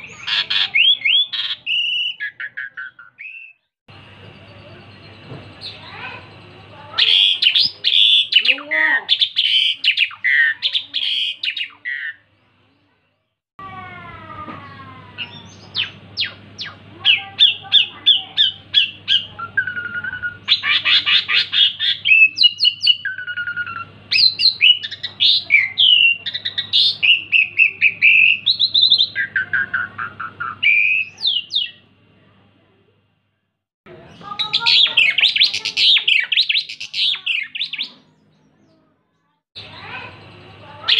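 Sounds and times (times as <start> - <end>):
starling singing: 0.0 - 12.6, 14.7 - 31.9, 33.9 - 38.7, 39.6 - 40.9.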